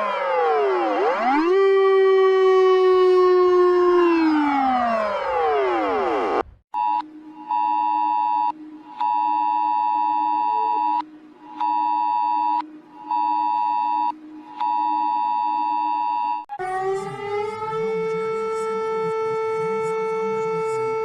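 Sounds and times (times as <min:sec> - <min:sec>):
siren tone sweeping downward: 0:00.0 - 0:21.0.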